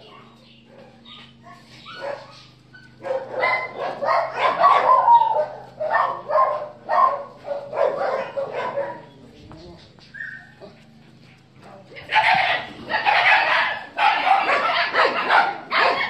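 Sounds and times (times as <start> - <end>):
dogs barking: 0.5 - 9.4, 10.0 - 16.0.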